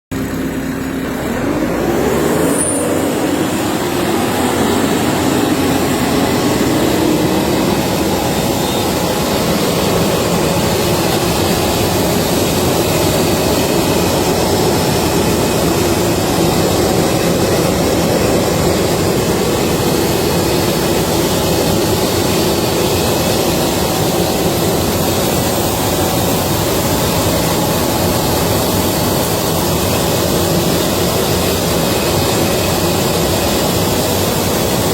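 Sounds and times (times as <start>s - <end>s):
engine and suction fan running: 0.1s - 34.9s.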